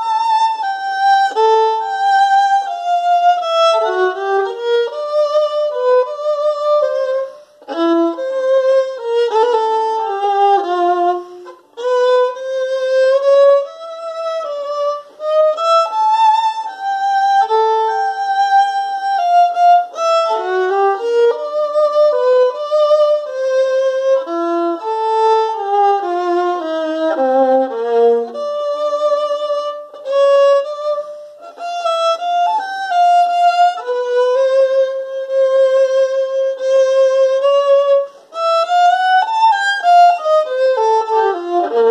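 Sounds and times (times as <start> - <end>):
solo violin: 0.0 - 41.9.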